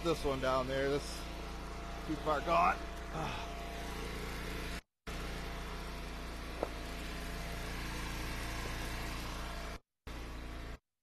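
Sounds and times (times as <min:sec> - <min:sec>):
gas engine running: 0:00.0 - 0:10.8.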